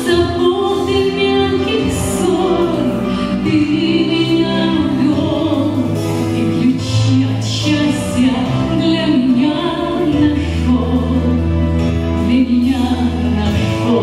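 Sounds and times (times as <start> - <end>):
instrumental accompaniment: 0.0 - 14.0
woman singing into microphone: 0.0 - 14.0.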